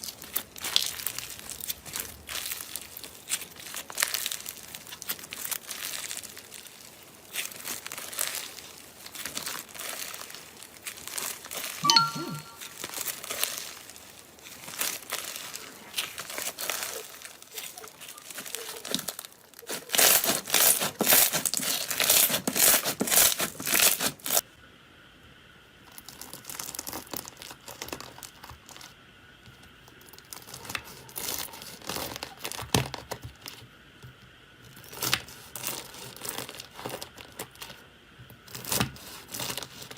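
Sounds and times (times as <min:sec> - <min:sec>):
crunchy slime crackling: 0:00.0 - 0:11.8, 0:12.6 - 0:24.4, 0:25.9 - 0:29.0, 0:29.8 - 0:33.6, 0:34.6 - 0:37.8, 0:38.4 - 0:39.9.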